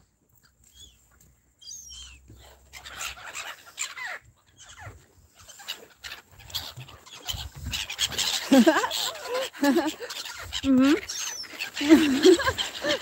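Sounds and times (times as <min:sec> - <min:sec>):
gulls calling: 0:01.6 - 0:13.0.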